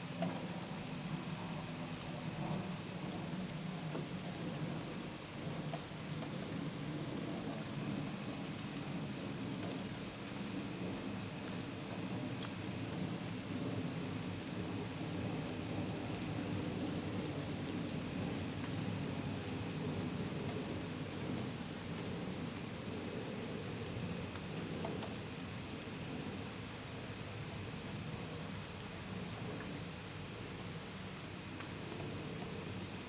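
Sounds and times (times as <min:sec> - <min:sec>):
rain pattering on a window: 0:00.0 - 0:33.0
crickets chirping: 0:00.6 - 0:33.0.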